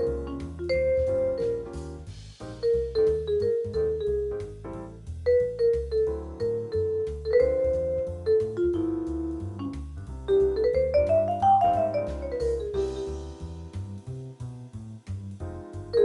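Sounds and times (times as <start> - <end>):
vibraphone jazz solo: 0.0 - 13.2, 15.8 - 16.0
walking bass: 0.0 - 16.0.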